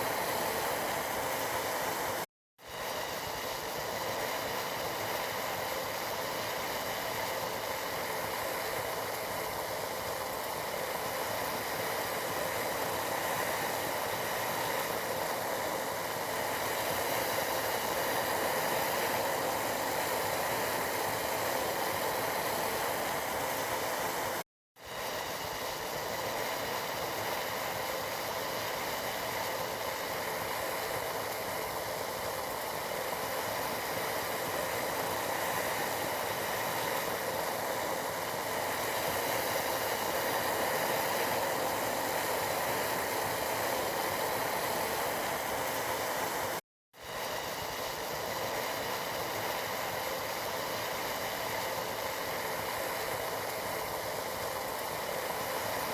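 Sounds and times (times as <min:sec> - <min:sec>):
tea boiling in a pot: 0:00.0 - 0:55.9.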